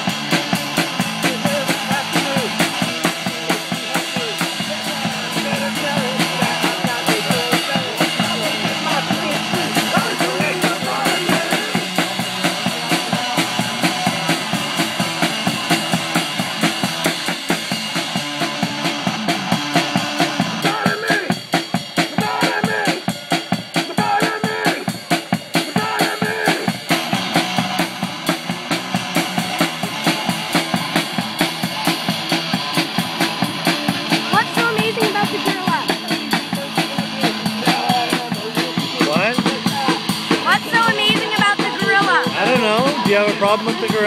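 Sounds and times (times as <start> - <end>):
drum kit beat: 0.0 - 44.0.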